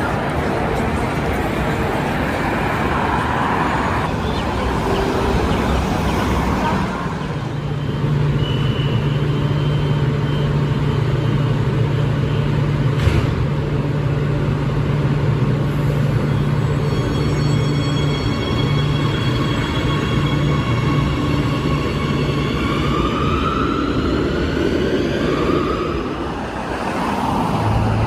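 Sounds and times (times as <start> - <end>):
traffic noise: 0.0 - 28.0.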